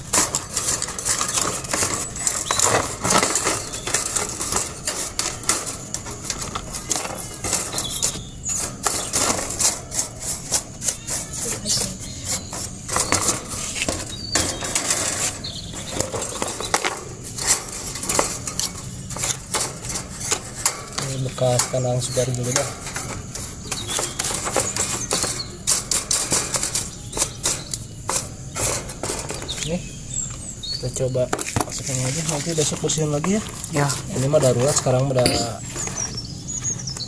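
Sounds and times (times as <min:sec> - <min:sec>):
brush scrubbing bird cage: 0:00.0 - 0:37.0.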